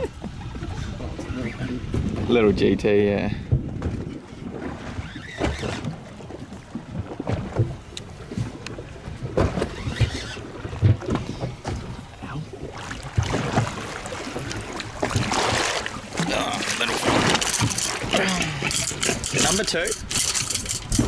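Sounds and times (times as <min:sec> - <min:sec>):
wind on microphone: 0:00.0 - 0:15.6, 0:16.9 - 0:21.0
small waves slapping boat hull: 0:00.0 - 0:21.0.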